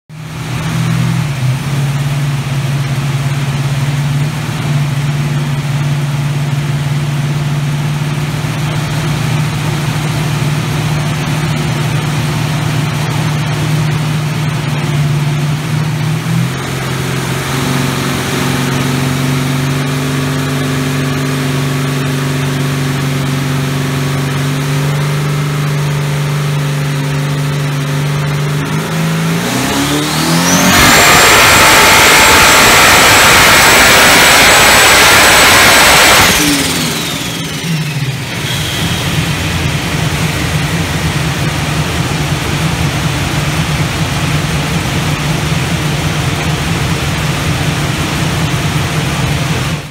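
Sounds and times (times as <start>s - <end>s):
car engine on dyno revving: 0.1s - 49.9s.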